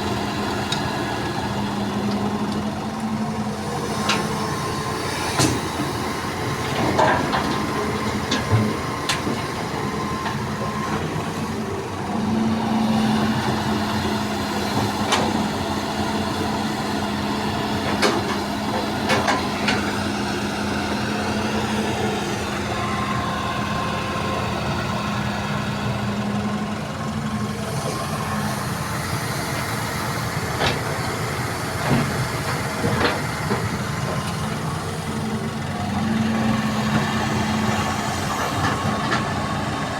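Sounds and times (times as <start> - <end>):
diesel machinery engine: 0.0 - 39.9.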